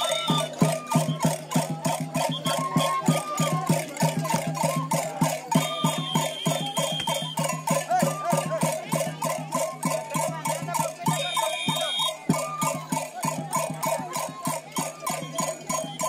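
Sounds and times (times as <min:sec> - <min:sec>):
fast folk dance music: 0:00.0 - 0:16.0.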